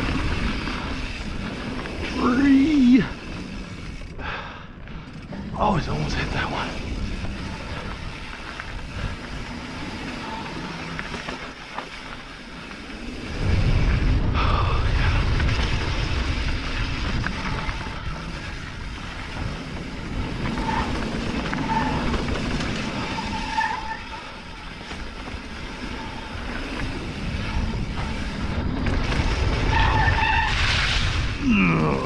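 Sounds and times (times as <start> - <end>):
tyres rolling over dirt: 0.0 - 4.2, 5.1 - 32.0.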